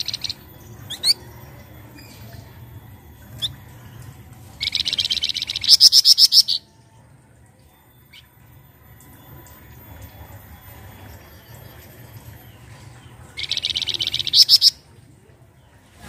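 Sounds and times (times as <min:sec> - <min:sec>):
songbird chirping and trilling: 0:00.0 - 0:16.0.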